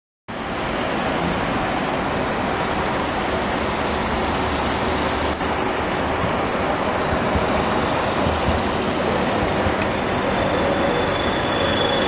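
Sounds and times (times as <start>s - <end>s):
street traffic: 0.3s - 12.0s
tram running on track: 0.3s - 12.0s.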